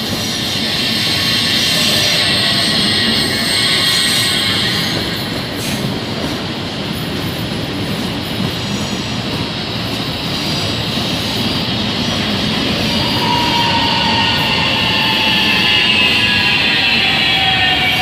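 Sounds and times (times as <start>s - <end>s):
electric train running: 0.0s - 18.0s.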